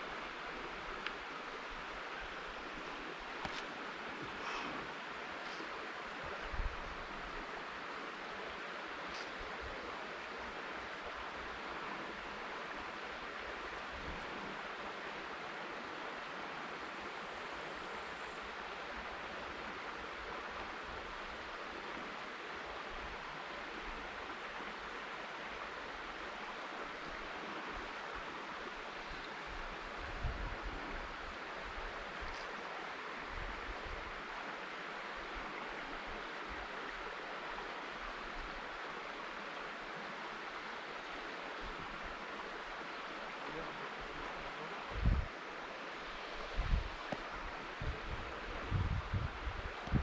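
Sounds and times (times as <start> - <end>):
river water flowing over stones: 0.0 - 50.0.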